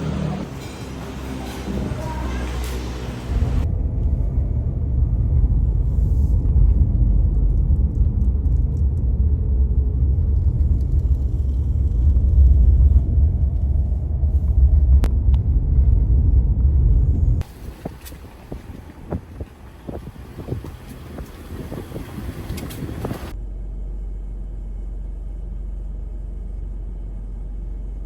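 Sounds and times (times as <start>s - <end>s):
loud low rumble: 0.0s - 28.0s.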